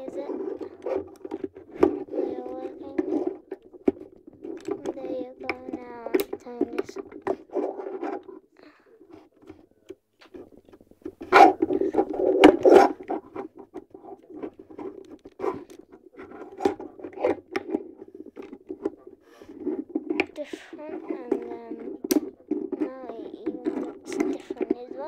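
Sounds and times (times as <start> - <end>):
plastic toy clicking and scraping: 0.0 - 25.0.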